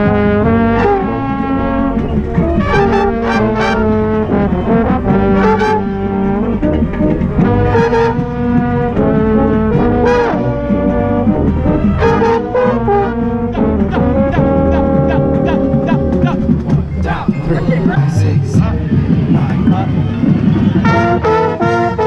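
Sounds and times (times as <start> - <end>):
brass horn close to microphone: 0.0 - 16.7, 20.8 - 22.0
marching band brass chords: 0.0 - 22.0.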